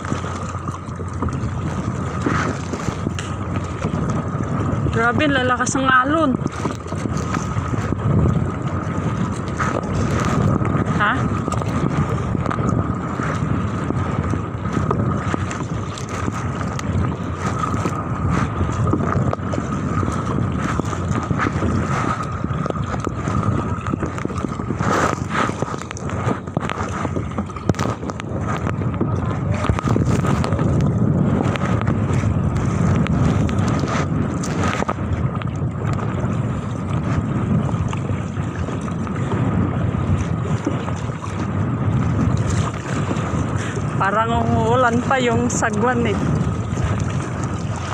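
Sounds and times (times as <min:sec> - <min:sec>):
paddle and wave splashes: 0:00.0 - 0:47.9
wind buffeting microphone: 0:00.0 - 0:47.9.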